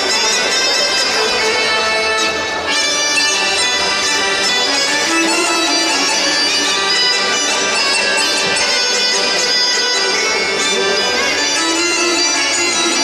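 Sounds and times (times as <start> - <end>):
fast folk dance bagpipe music: 0.0 - 13.0.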